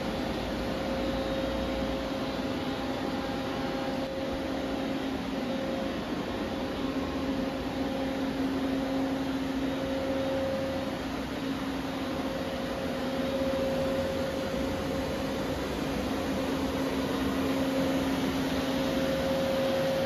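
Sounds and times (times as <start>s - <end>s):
machine electrical hum: 0.0s - 20.0s.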